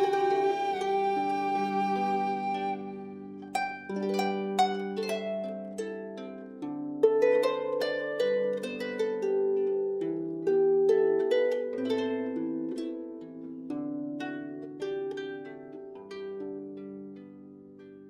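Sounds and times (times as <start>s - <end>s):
plucked harp-like melody: 0.0s - 18.0s.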